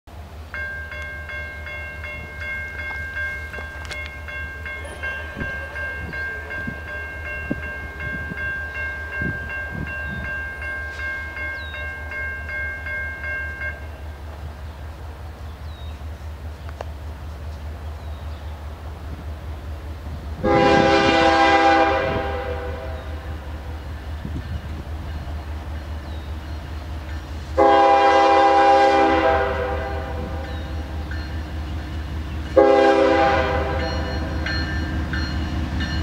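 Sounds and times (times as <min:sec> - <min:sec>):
crossing bell dinging: 0:00.4 - 0:14.4, 0:20.5 - 0:36.0.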